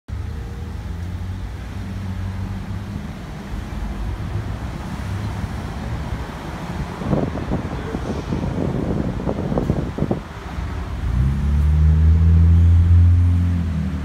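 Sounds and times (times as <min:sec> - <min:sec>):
low rumble of passing vehicles: 0:00.1 - 0:14.0.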